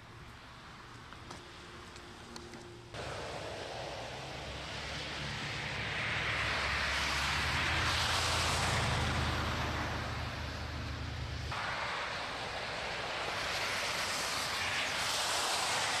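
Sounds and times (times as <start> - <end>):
tyres hissing on wet road: 3.0 - 16.0.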